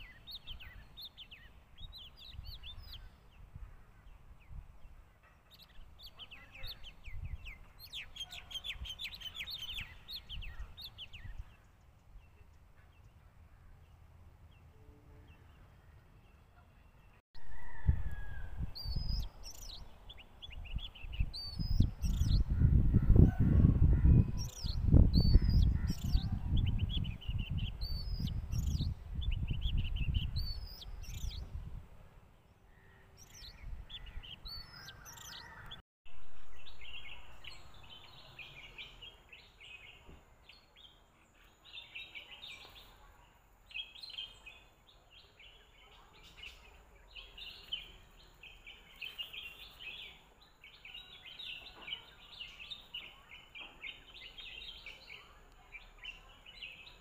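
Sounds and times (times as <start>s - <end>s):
lower bird chirping: 0.0s - 57.0s.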